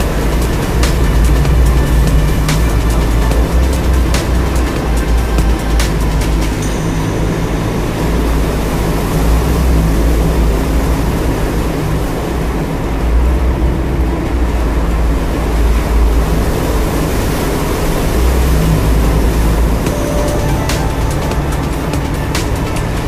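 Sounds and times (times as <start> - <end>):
vehicle engine and tyres rumbling: 0.0 - 23.0.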